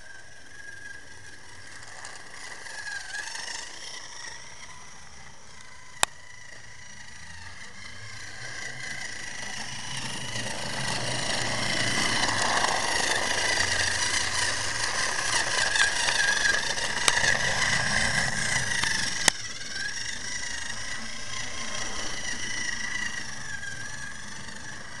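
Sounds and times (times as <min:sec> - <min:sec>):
toy train motor whirring: 0:00.0 - 0:25.0
toy train wheels rattling: 0:00.0 - 0:25.0.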